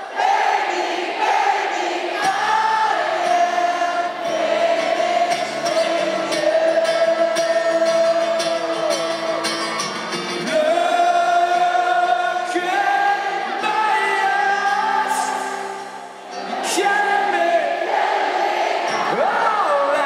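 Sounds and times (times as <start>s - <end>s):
acoustic guitar: 0.0s - 20.0s
crowd singing along: 0.0s - 20.0s.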